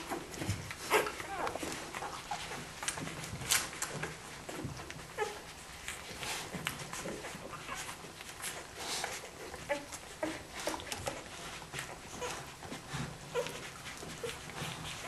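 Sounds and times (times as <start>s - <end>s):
puppies squeaking and whimpering: 0.0s - 15.0s
small clicks and rustling: 0.0s - 15.0s.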